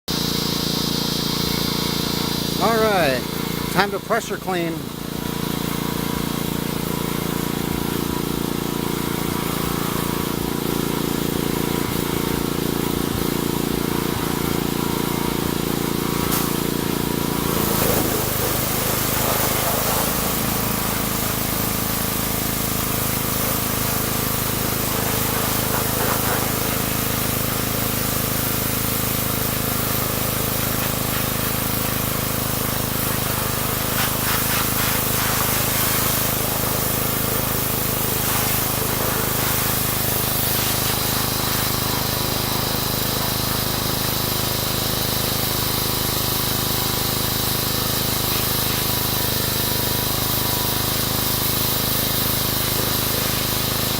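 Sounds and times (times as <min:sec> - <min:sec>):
pressure washer hum: 0:00.1 - 0:53.9
pressure washer spray hiss: 0:00.1 - 0:53.9.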